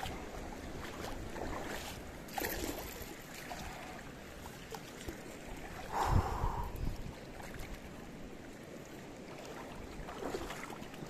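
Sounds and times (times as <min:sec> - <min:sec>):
river water sloshing and splashing: 0:00.0 - 0:11.0.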